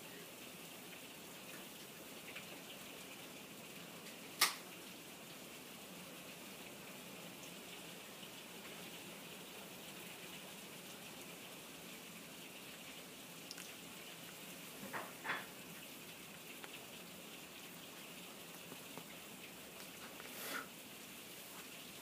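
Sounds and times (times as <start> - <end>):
heavy rain through window: 0.0 - 22.0.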